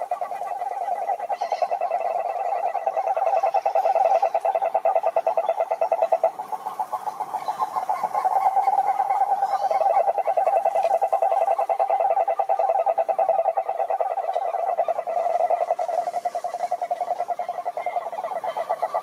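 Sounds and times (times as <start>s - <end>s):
frogs croaking in chorus: 0.0s - 19.0s.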